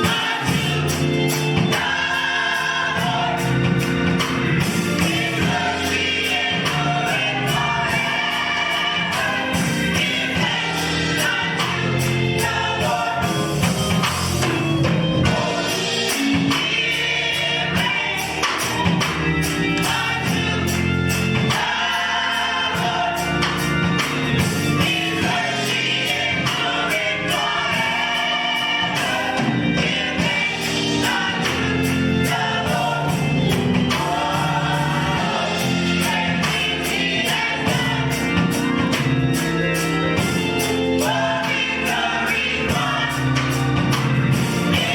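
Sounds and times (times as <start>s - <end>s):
choir singing gospel: 0.0s - 44.9s
instrumental accompaniment with beat: 0.0s - 44.9s.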